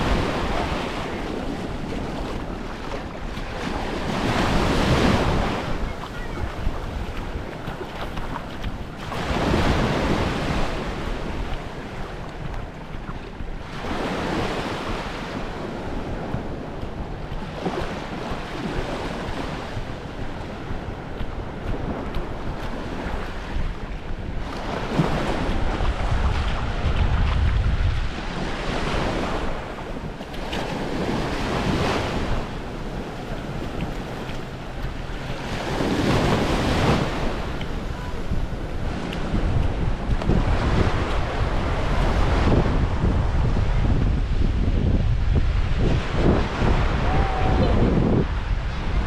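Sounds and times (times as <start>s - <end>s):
waves washing onto beach: 0.0s - 49.0s
wind rumbling on microphone: 0.0s - 49.0s.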